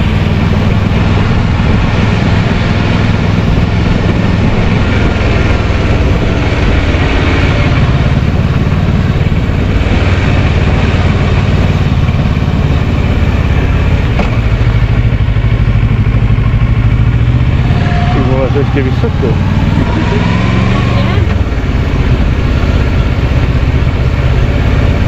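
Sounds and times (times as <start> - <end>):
motorcycle engine running: 0.0 - 25.0
wind noise rushing: 0.0 - 25.0.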